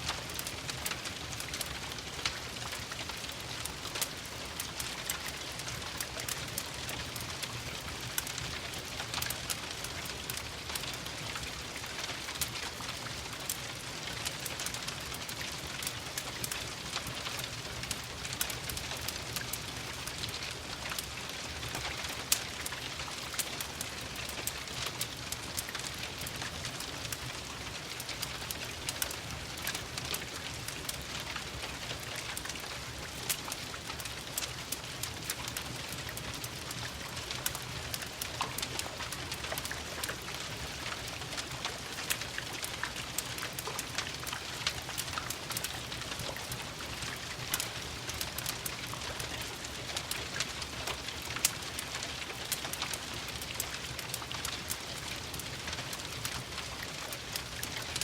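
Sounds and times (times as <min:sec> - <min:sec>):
steady rain falling: 0:00.0 - 0:58.0
wood fire crackling: 0:00.0 - 0:58.0.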